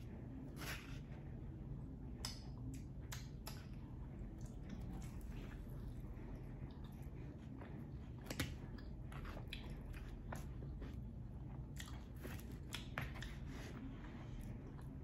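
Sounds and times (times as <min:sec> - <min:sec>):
steady low hum: 0:00.0 - 0:15.0
close chewing: 0:02.2 - 0:15.0.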